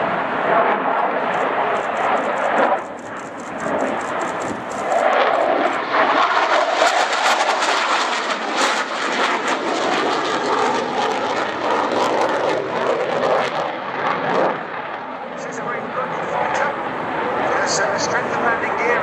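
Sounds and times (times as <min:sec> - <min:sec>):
fighter jet noise: 0:00.0 - 0:19.0.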